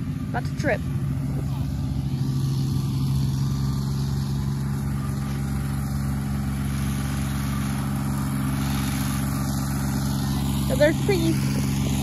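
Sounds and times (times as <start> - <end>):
vehicle engine humming steadily: 0.0 - 12.0.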